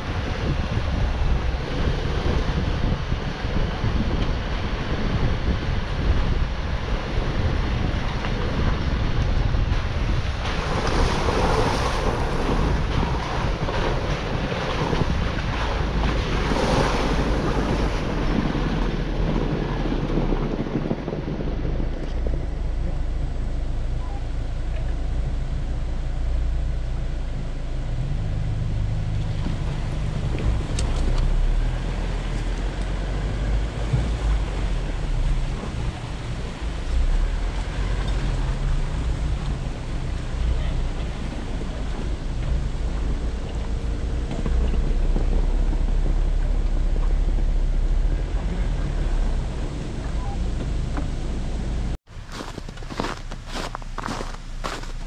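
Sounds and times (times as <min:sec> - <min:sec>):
tyres on gravel and slush: 0:00.0 - 0:23.2, 0:29.0 - 0:47.4, 0:48.1 - 0:55.0
off-road vehicle engine drone: 0:00.0 - 0:55.0
wind buffeting microphone: 0:00.0 - 0:55.0.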